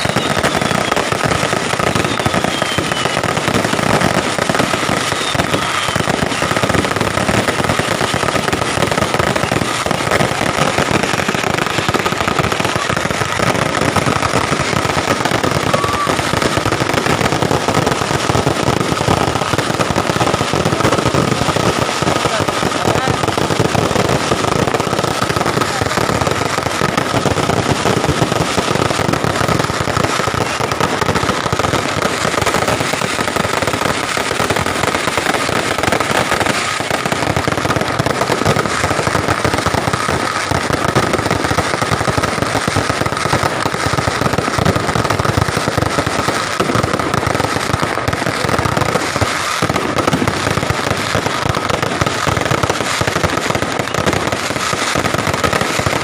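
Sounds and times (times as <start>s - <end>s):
fireworks and firecrackers cracking: 0.0s - 56.0s.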